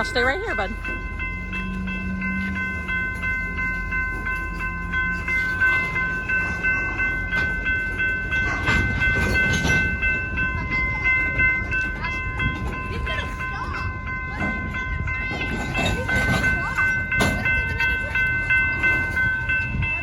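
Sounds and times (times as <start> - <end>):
railroad crossing bell ringing: 0.0 - 20.0
slow-moving train rumble: 0.0 - 20.0
train wheels clattering on rails: 0.0 - 20.0.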